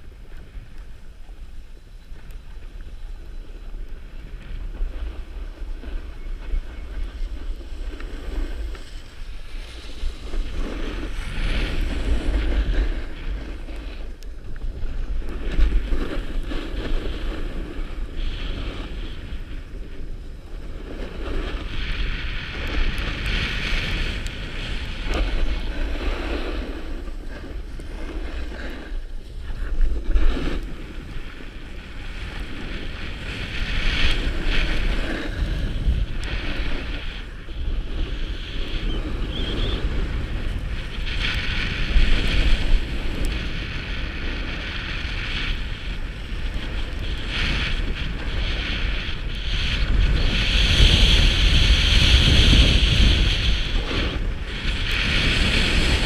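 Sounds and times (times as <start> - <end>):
skis sliding over snow: 0.0 - 56.0
wind buffeting microphone: 0.0 - 56.0.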